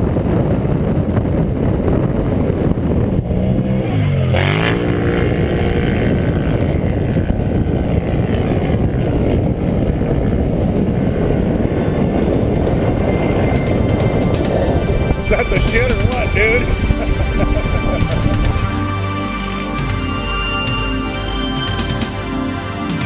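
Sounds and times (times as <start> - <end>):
steady loud rumbling: 0.0 - 23.0
distant quad engine revving: 0.1 - 23.0.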